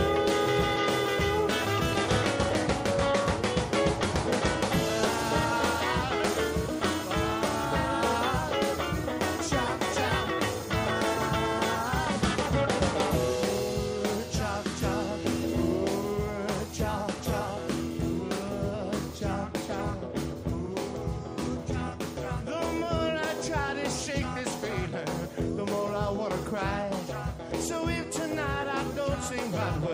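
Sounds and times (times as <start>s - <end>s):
person singing: 0.0s - 2.1s, 4.6s - 29.9s
band playing: 0.0s - 29.9s
steady drum beat: 0.0s - 29.9s.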